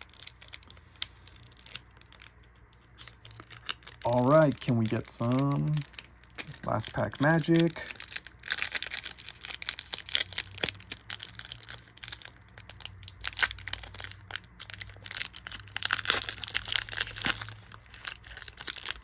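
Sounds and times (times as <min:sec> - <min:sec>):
foil wrapper crinkling and tearing: 0:00.0 - 0:19.0.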